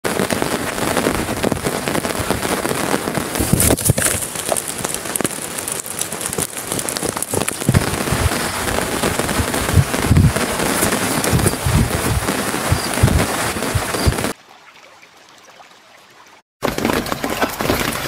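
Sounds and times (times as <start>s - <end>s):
heavy rain on plastic tarp: 0.0s - 14.4s, 16.6s - 18.0s.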